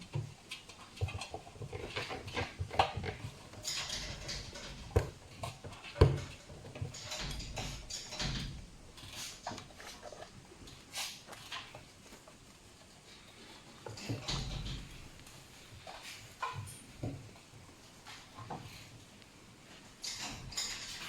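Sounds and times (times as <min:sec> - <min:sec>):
raccoons scrabbling and rustling: 0:00.0 - 0:21.0.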